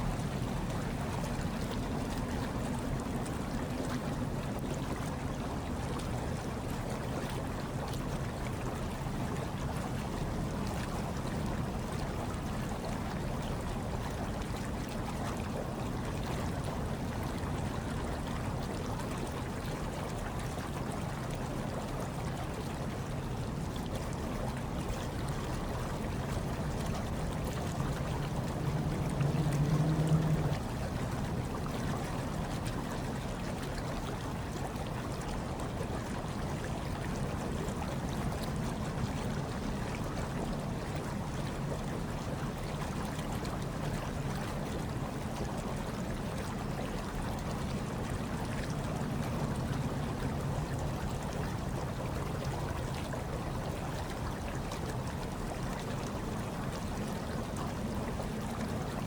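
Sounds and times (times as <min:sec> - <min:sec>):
hot tub water bubbling: 0:00.0 - 0:59.0.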